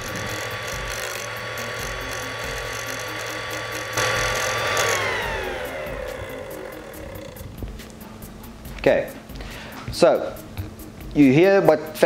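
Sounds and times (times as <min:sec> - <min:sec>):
fan whirring with whine and rattle: 0:00.0 - 0:11.3.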